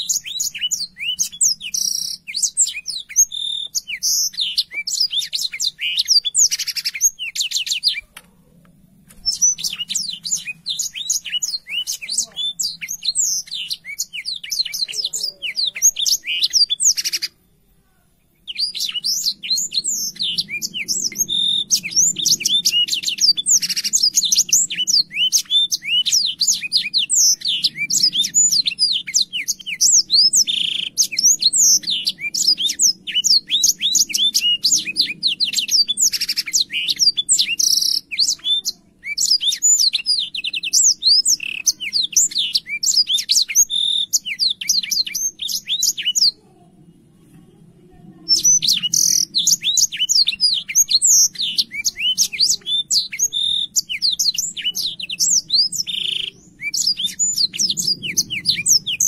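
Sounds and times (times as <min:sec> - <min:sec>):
canary singing: 0:00.0 - 0:17.5, 0:18.2 - 0:46.4, 0:48.1 - 0:59.0.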